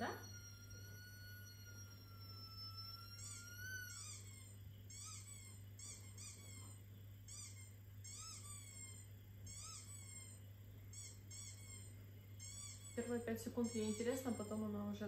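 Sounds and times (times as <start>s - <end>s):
squeaky toy ball squeaking: 0.0s - 14.7s.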